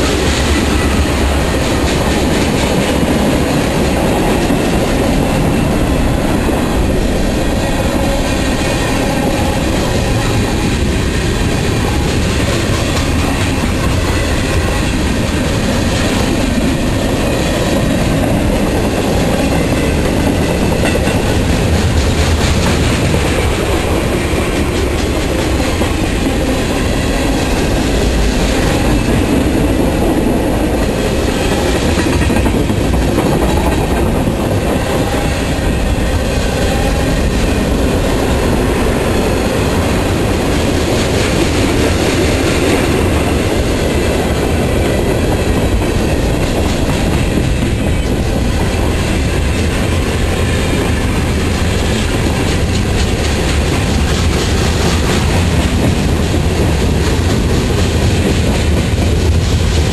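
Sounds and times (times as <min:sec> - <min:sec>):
freight train wheels on rails: 0:00.0 - 0:59.9.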